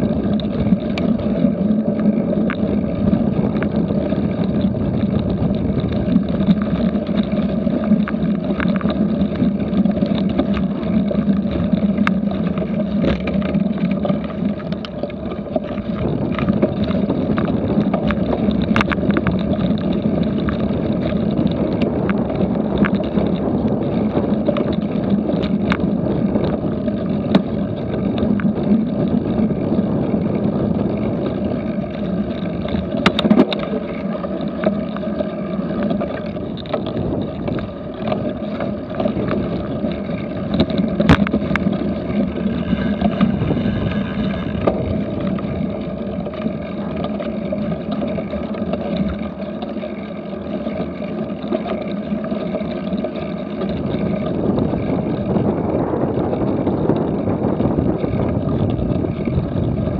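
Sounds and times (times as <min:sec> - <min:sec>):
wind rushing over microphone: 0:00.0 - 0:49.4, 0:53.0 - 0:59.9
bike rattling over rough ground: 0:00.0 - 0:59.9.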